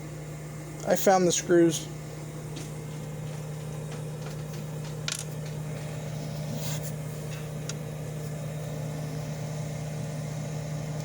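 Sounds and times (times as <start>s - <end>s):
dehumidifier humming: 0.0s - 11.0s.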